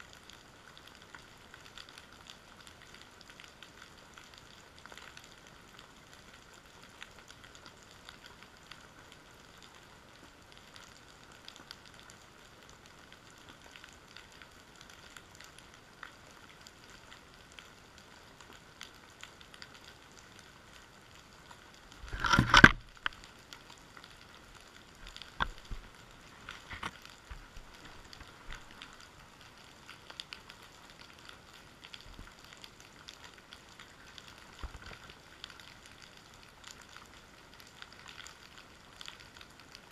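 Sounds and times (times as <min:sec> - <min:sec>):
underwater crackle of clicks: 0:00.1 - 0:39.9.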